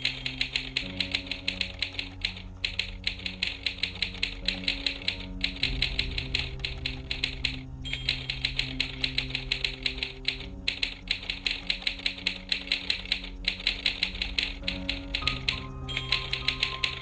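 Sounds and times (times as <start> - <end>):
low sustained music: 0.0 - 17.0
typewriter clacking: 0.0 - 17.0.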